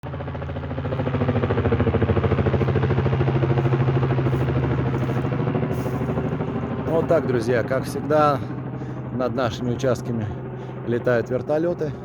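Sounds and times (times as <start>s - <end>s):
helicopter engine hum: 0.0s - 12.0s
helicopter rotor thudding: 0.1s - 12.0s.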